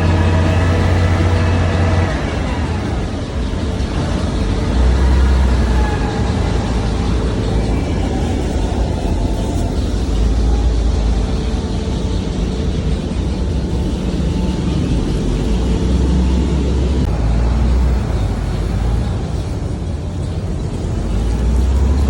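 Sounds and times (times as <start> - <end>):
wood chipper machinery rumbling: 0.0 - 22.0.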